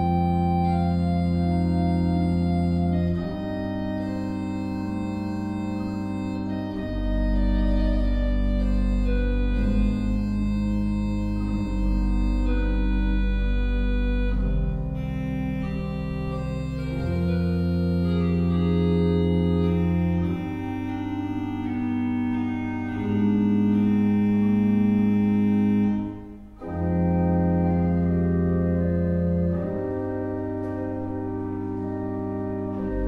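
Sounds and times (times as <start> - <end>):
pipe organ playing chords: 0.0 - 33.0.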